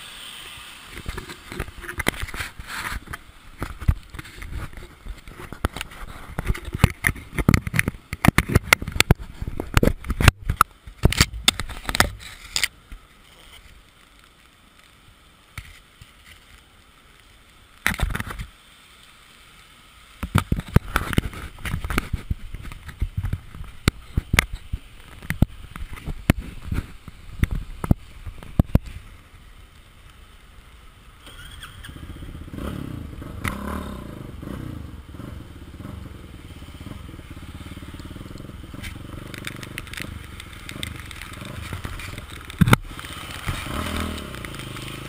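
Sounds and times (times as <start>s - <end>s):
rustle: 0.0s - 45.0s.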